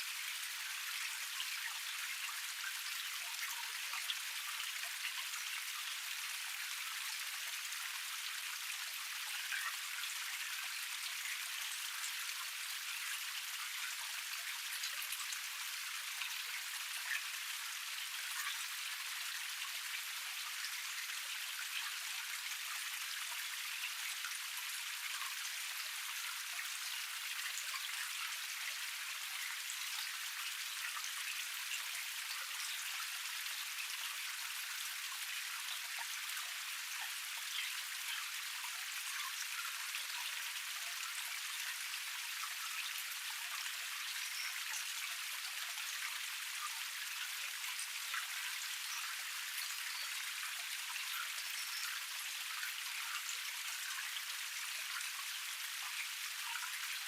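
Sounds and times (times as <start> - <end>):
waterfall over rocks: 0.0 - 57.0.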